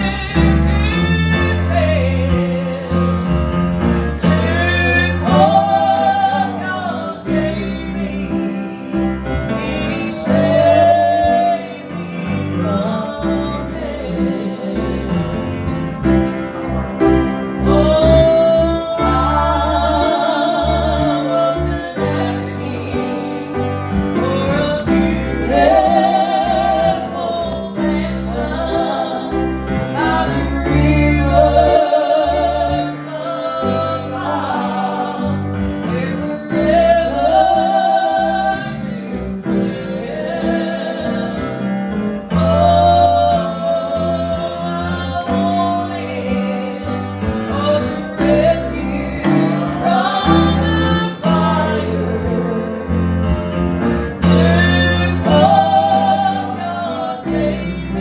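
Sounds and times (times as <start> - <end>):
women singing gospel: 0.0 - 58.0.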